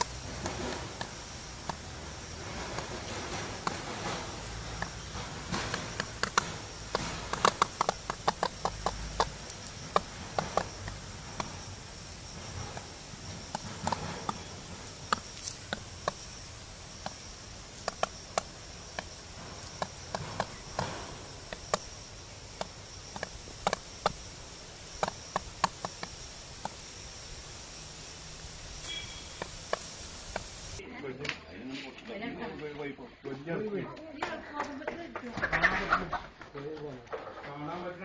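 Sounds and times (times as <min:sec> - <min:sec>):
beaks pecking ground: 0:00.0 - 0:30.8
high insect drone: 0:00.0 - 0:30.8.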